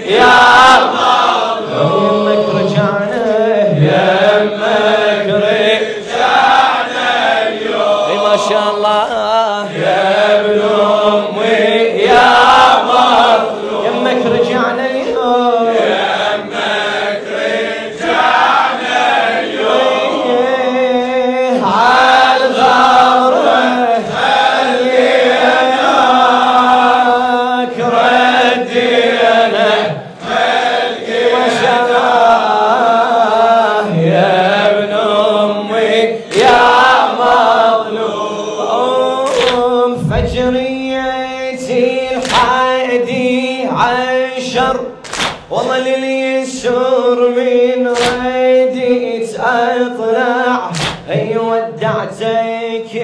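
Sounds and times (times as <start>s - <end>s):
men chanting together: 0.0s - 53.0s.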